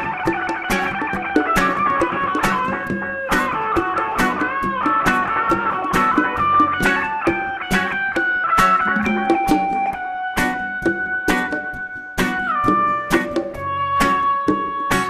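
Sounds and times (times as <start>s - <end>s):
electric guitar bending notes: 0.0s - 15.0s
rock reggae band playing live: 0.0s - 15.0s.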